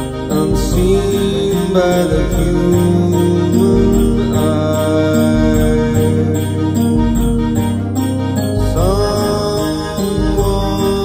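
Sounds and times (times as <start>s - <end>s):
recorded song over loudspeakers: 0.0s - 11.0s.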